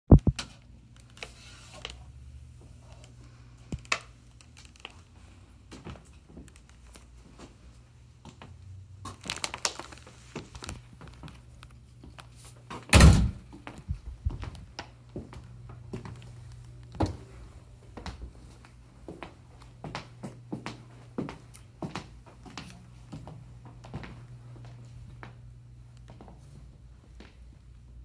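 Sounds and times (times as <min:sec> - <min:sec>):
steady low hum: 0:00.1 - 0:09.2, 0:10.0 - 0:28.0.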